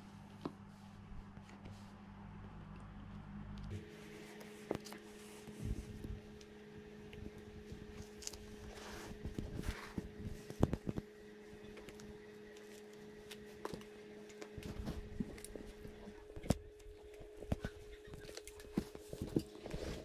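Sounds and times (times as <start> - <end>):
steady electrical hum: 0.0 - 20.0
hands rustling: 3.7 - 20.0.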